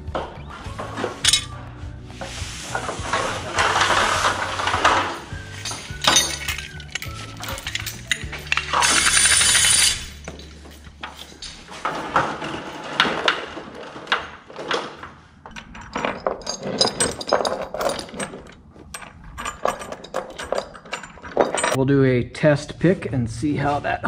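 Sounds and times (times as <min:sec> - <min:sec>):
metal hardware clinking and rattling: 0:00.0 - 0:01.8, 0:02.7 - 0:21.8.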